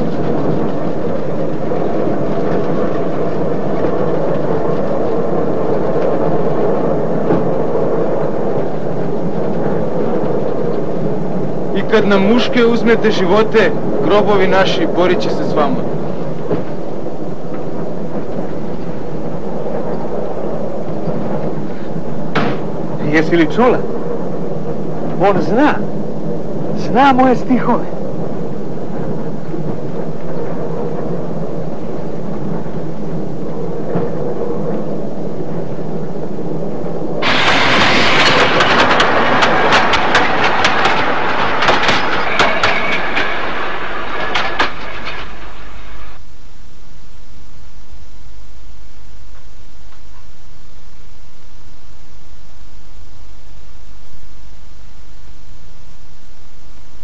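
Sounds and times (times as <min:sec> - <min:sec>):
railway carriage rumble: 0:00.0 - 0:46.4.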